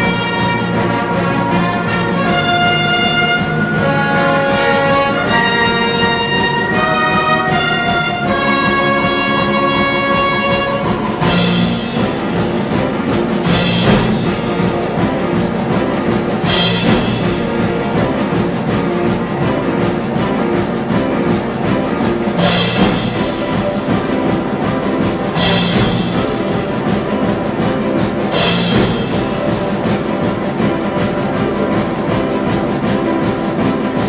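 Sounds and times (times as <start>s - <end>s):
full orchestra strikes: 0.0s - 34.0s
orchestra playing sustained chords: 0.0s - 34.0s.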